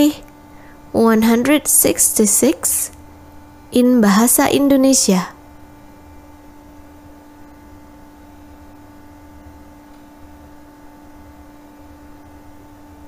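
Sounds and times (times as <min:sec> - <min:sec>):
two-tone electrical hum: 0:00.0 - 0:13.0.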